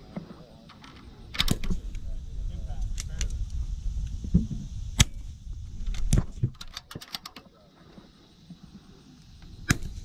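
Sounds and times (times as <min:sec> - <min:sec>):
wind rumble on microphone: 0:01.0 - 0:07.0, 0:07.8 - 0:10.0.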